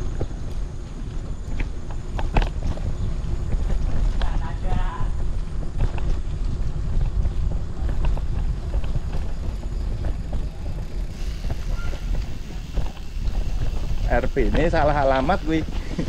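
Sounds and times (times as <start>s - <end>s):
bike clicking over bumps: 0.0s - 16.0s
wind buffeting microphone: 0.0s - 16.0s.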